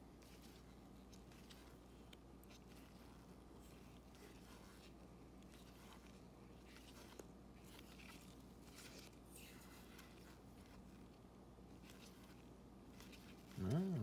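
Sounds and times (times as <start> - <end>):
cards swishing and ticking: 0.0 - 14.0.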